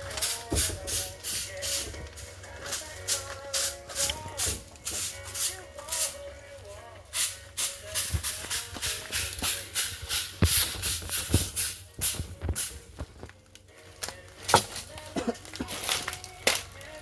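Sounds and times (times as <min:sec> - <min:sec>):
hand tools scraping and knocking: 0:00.0 - 0:06.2, 0:07.1 - 0:13.4, 0:14.0 - 0:16.8.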